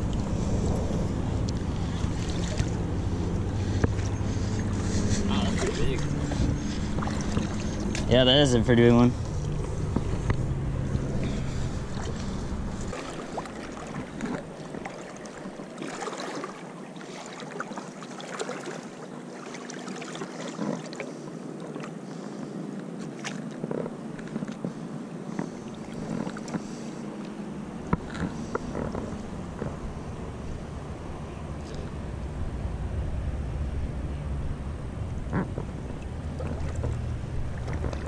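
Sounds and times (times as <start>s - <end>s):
water sloshing around wading legs: 0.0s - 32.1s, 35.2s - 38.0s.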